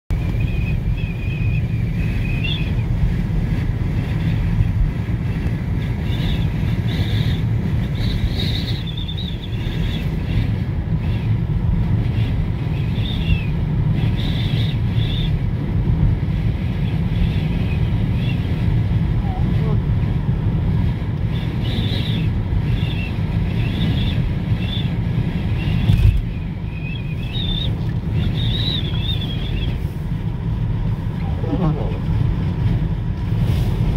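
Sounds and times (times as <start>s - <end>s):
car driving on snowy road: 0.1s - 33.9s.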